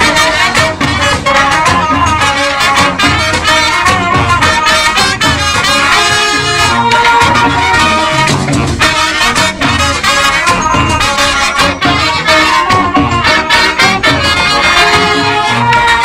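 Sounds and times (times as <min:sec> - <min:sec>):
brass marching band: 0:00.0 - 0:16.0
drum strikes: 0:00.0 - 0:16.0.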